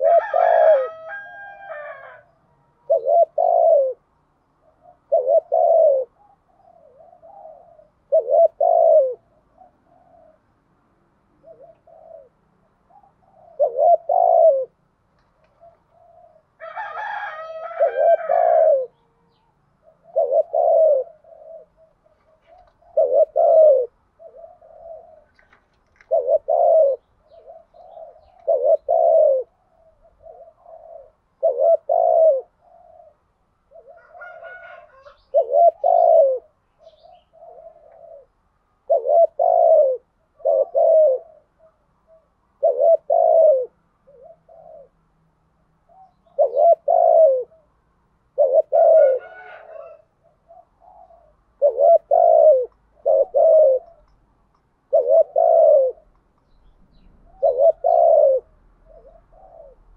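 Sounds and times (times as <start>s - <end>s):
dove cooing: 0.0s - 45.1s, 45.8s - 54.2s, 54.8s - 59.9s.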